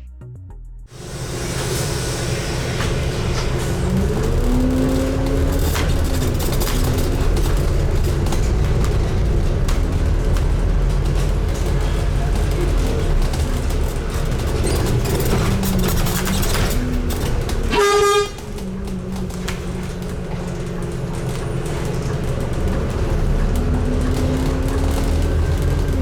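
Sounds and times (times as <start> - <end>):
bus engine running: 0.9 - 26.0
bus horn toot: 2.6 - 26.0.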